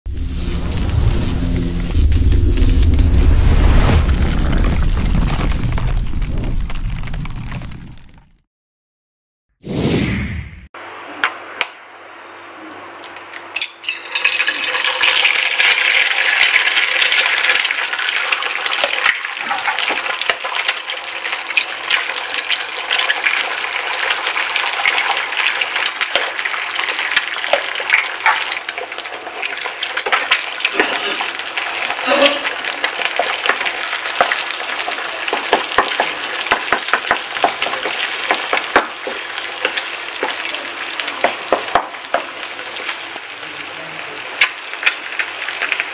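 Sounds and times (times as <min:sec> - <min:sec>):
eggs sizzling in hot oil: 0:00.1 - 0:08.3, 0:13.8 - 0:45.9.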